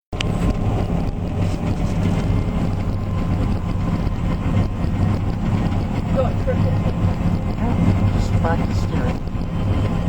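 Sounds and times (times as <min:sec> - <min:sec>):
harvester engine humming: 0:00.1 - 0:10.0.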